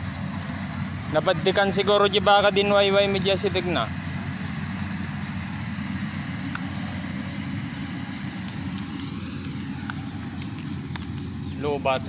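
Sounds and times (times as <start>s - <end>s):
combine harvester engine rumble: 0.0s - 12.0s.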